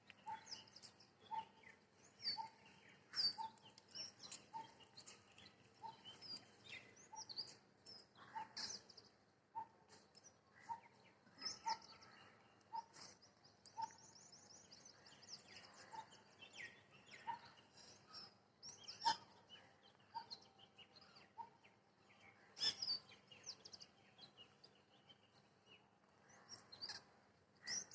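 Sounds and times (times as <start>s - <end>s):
birds chirping and twittering: 0.0s - 27.9s.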